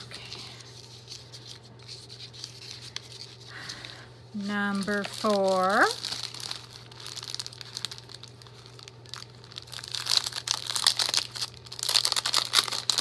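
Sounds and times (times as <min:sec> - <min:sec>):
plastic bag crinkling: 0:00.1 - 0:13.0.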